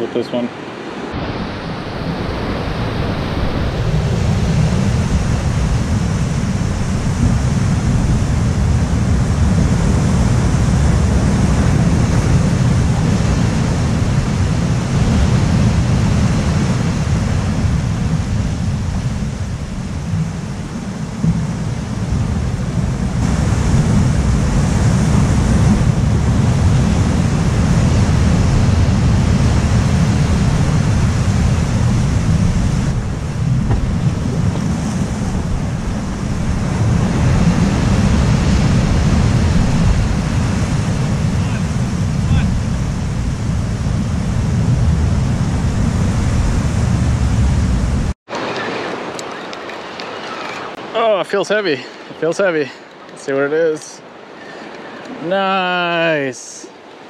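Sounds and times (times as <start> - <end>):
ocean surf rushing: 0.0 - 57.0
wind buffeting microphone: 0.8 - 50.9.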